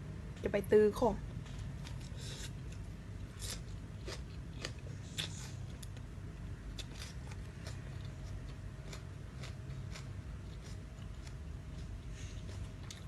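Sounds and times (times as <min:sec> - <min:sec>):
crunchy food chewing: 0:01.5 - 0:13.0.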